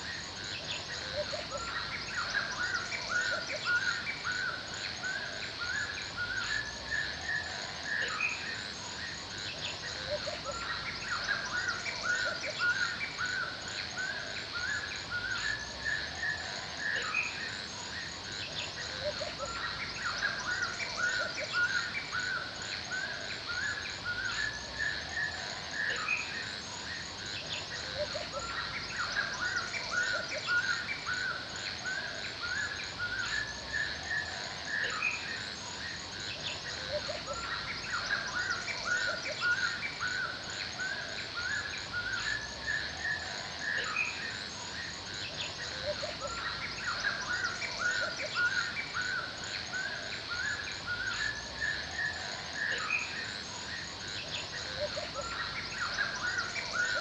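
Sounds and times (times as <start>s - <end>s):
birds chirping and calling: 0.0s - 57.0s
high insect-like hiss: 0.0s - 57.0s.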